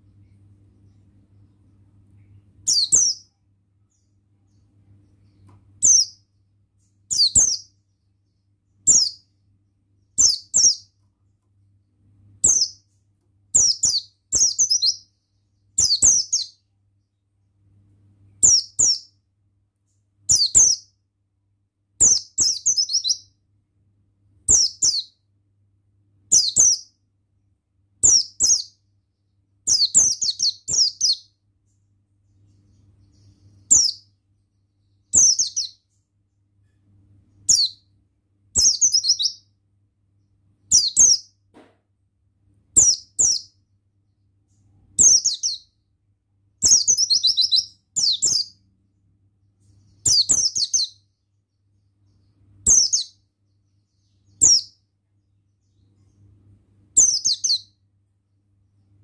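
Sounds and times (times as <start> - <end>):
bird twittering song: 0.0 - 17.3, 18.0 - 19.2, 19.8 - 21.0, 21.9 - 23.4, 24.4 - 25.3, 26.2 - 27.0, 28.0 - 39.6, 40.2 - 41.4, 42.8 - 45.8, 46.6 - 57.9
faint low hum: 0.0 - 59.0.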